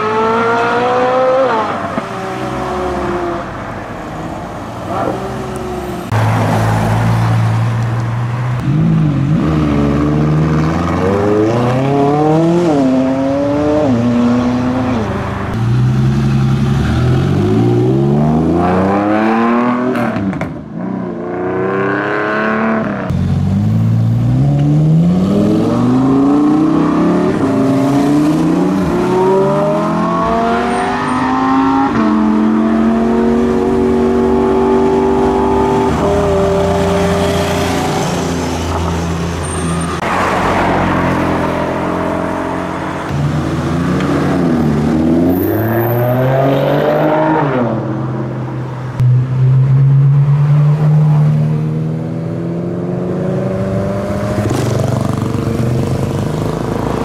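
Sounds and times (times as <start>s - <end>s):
cars accelerating: 0.0s - 57.0s.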